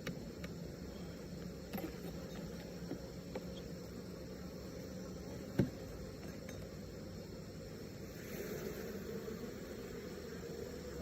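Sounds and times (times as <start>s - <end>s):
honeybee colony humming: 0.0s - 11.0s.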